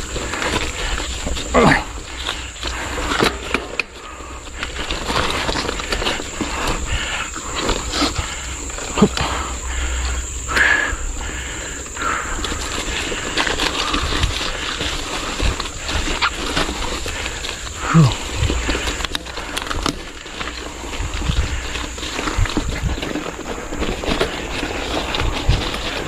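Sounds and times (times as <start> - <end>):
person breathing heavily: 0.0 - 25.9
bike rattling: 0.0 - 26.0
tyres crunching over stones: 0.0 - 26.0.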